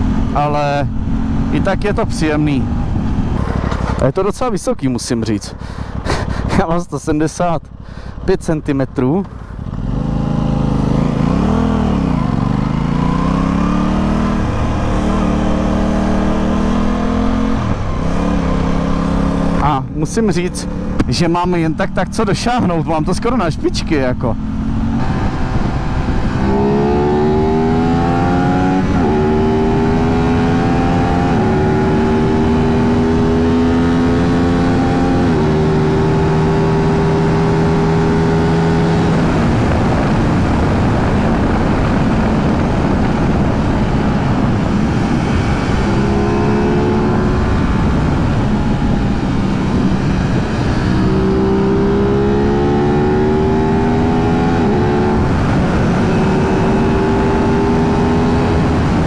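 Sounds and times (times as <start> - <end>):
motorcycle accelerating through gears: 0.0 - 4.1, 9.2 - 59.0.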